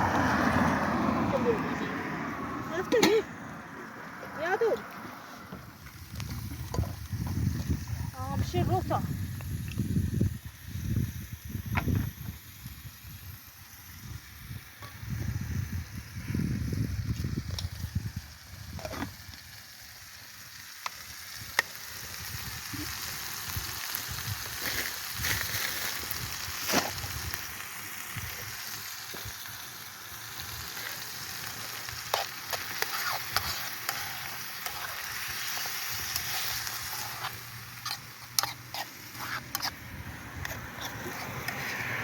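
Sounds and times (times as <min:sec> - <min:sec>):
food sizzling in a pan: 0:05.8 - 0:42.0.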